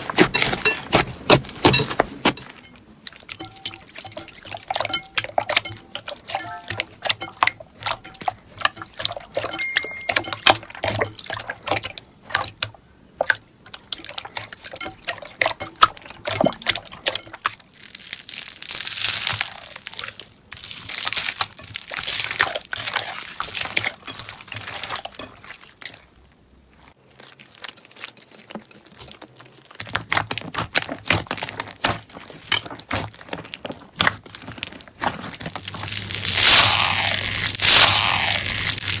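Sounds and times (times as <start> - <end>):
hands squishing slime: 0.0 - 26.2, 26.8 - 39.0
slime squelching: 0.0 - 39.0.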